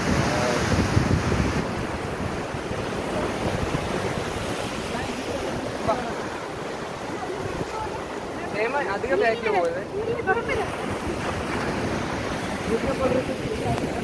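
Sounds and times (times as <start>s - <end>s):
water rushing past boat: 0.0s - 14.0s
wind buffeting microphone: 0.0s - 14.0s.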